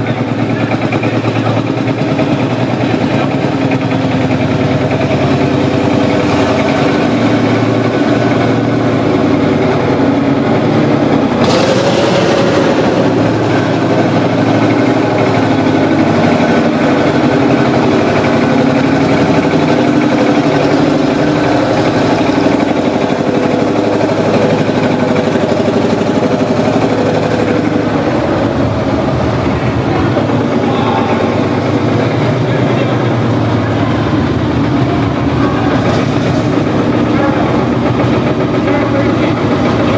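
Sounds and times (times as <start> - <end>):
rush of noise: 0.0 - 39.9
tractor engine running: 0.0 - 39.9.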